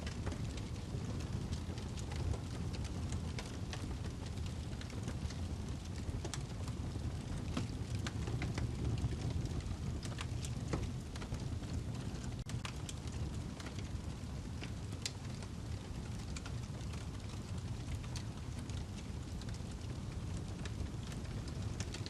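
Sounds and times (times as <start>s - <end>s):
log fire crackling and popping: 0.0s - 22.0s
low rumble of fire: 0.0s - 22.0s.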